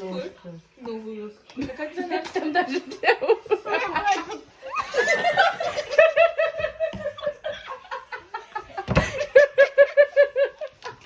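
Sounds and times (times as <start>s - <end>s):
young women laughing: 2.0s - 11.0s.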